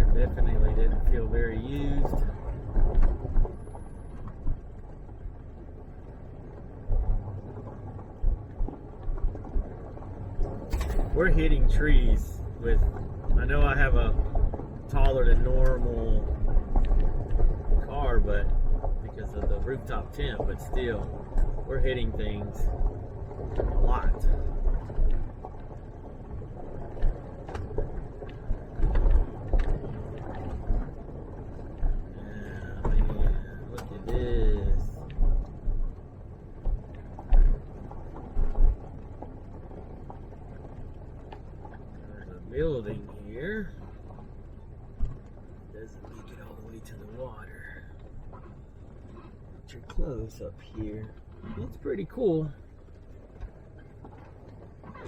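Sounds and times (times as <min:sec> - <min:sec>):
car driving on dirt track: 0:00.0 - 0:55.0.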